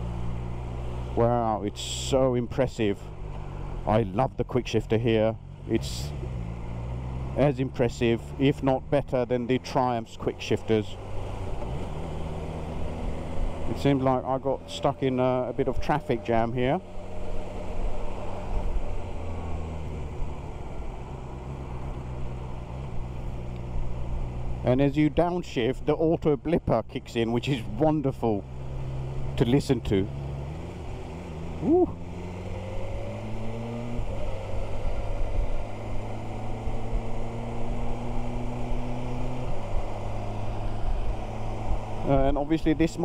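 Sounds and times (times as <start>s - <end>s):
road and wind noise: 0.0s - 43.0s
motorcycle engine accelerating: 5.4s - 24.8s, 27.4s - 43.0s.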